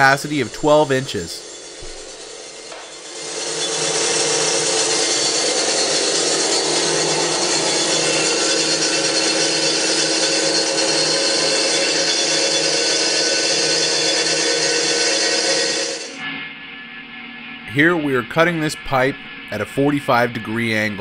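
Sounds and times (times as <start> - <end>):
band saw cutting metal: 0.0 - 21.0.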